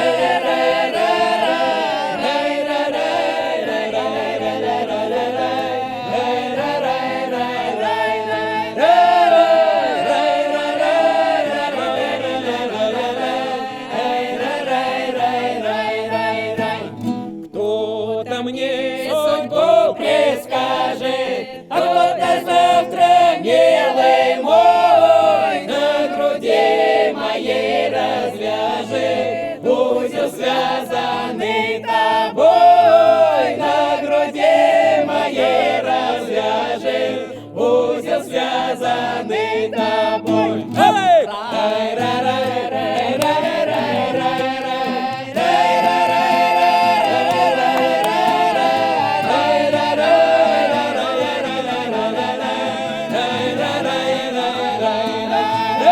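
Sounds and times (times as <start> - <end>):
mixed choir singing unaccompanied: 0.0 - 55.9.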